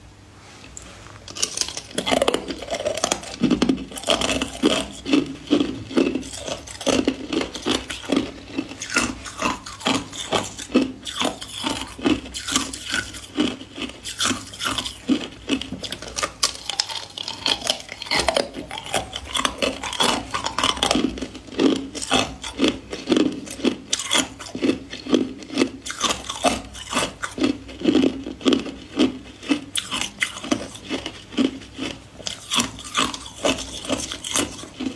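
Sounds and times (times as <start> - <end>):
ice cubes crunching in teeth: 1.3 - 34.9.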